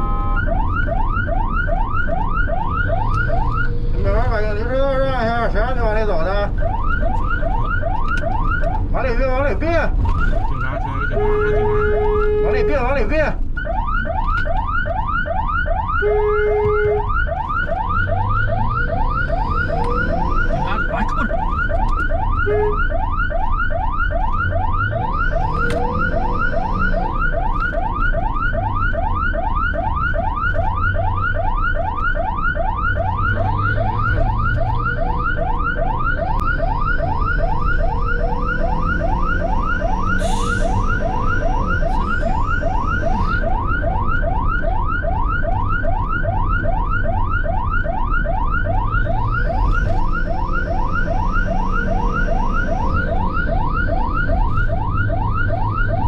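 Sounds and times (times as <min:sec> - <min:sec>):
ambulance siren yelping: 0:00.0 - 0:56.0
low vehicle rumble: 0:00.0 - 0:56.0.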